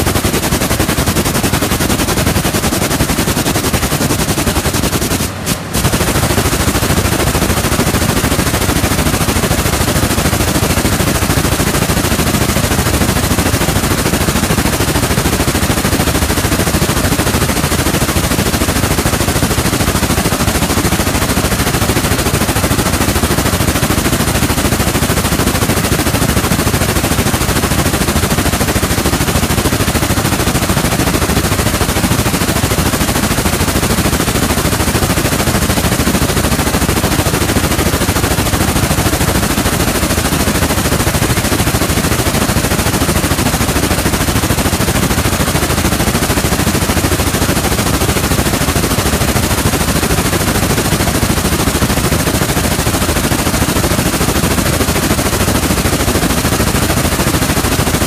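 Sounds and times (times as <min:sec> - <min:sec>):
loom rapid mechanical clatter: 0:00.0 - 0:58.0.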